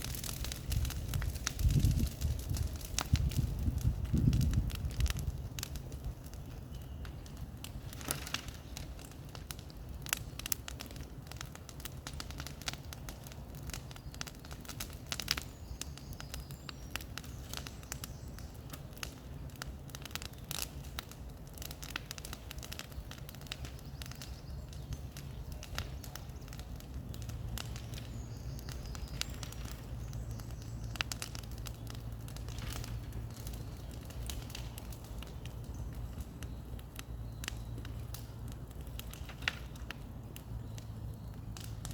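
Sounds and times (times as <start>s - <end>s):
bonfire crackling and popping: 0.0s - 41.9s
low rumble of fire: 0.0s - 41.9s.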